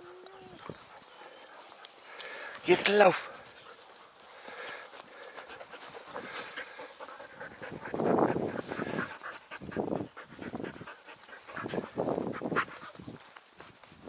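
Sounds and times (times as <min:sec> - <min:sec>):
dogs panting hard: 0:00.5 - 0:13.2.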